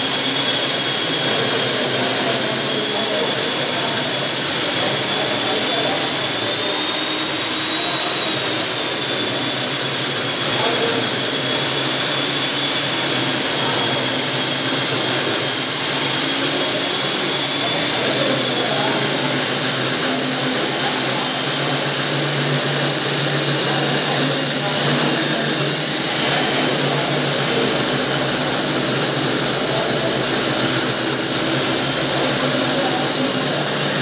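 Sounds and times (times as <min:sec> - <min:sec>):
electric core drill whining: 0:00.0 - 0:34.0.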